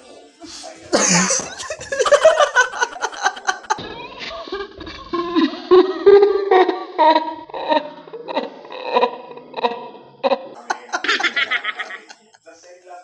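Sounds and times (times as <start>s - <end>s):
people laughing: 0.8s - 12.7s.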